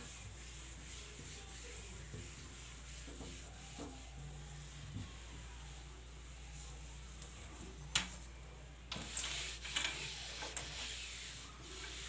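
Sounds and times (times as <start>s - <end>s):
cloth scrubbing wooden door: 0.0s - 7.8s, 9.0s - 12.0s.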